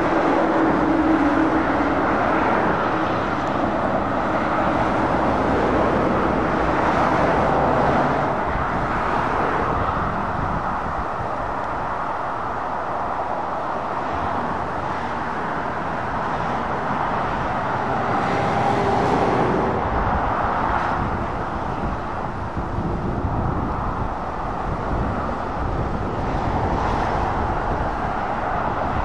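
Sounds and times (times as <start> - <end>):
lorry passing close by: 0.0 - 29.0
road traffic noise: 0.0 - 29.0.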